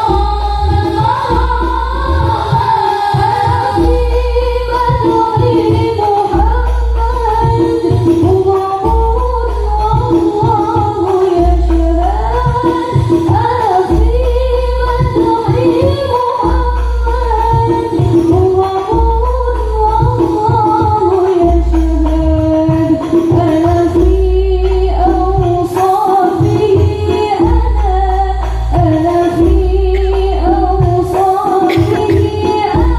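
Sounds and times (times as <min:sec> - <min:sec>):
frame drums beating: 0:00.0 - 0:32.9
woman singing: 0:00.0 - 0:32.9.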